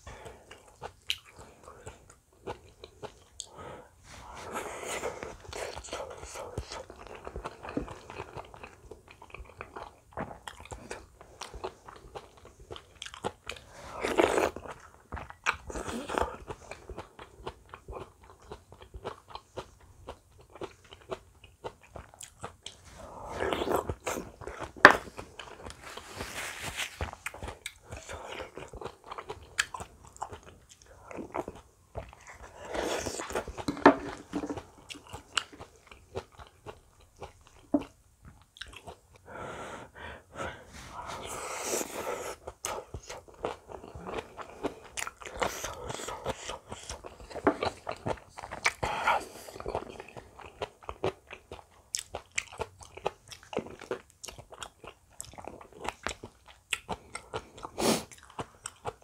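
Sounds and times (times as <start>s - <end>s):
chewing and crunching: 0.0s - 39.3s, 40.8s - 59.0s.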